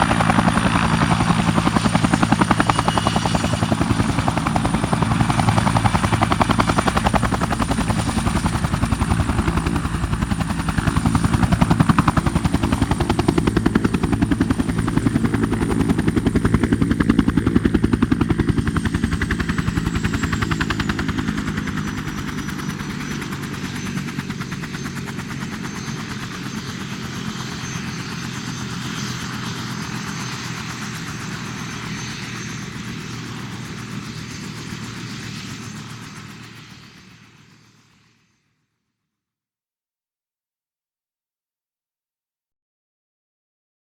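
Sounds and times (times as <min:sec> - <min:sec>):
helicopter rotor chop: 0:00.0 - 0:37.4.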